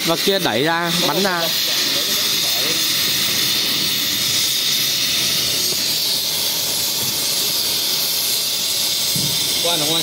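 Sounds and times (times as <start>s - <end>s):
loud steady hiss: 0.0s - 10.0s.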